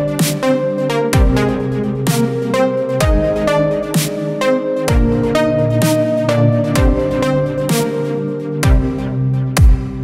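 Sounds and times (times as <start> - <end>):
held synth chords: 0.0 - 10.0.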